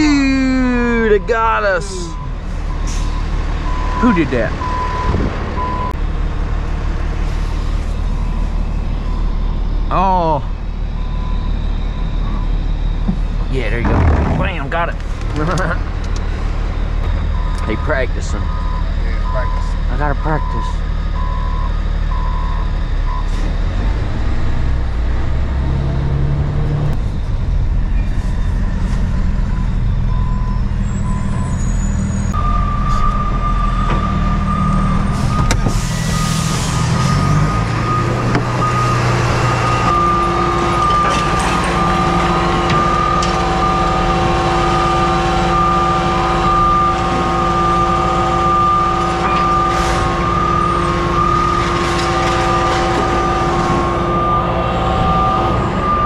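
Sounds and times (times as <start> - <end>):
reversing beeper: 0.0 - 6.0, 7.5 - 15.7, 17.0 - 23.8, 25.6 - 56.0
truck diesel engine running: 0.0 - 56.0.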